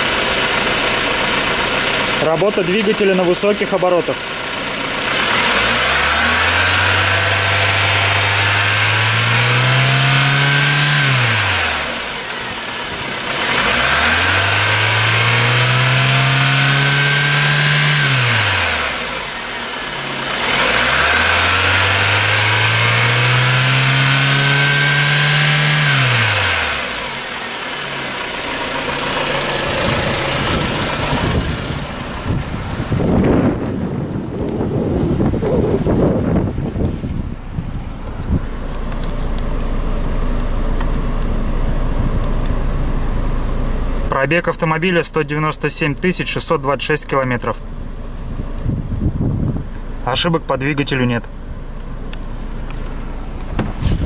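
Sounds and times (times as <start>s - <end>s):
car engine revving: 0.0s - 45.6s
car engine idling: 0.0s - 54.0s.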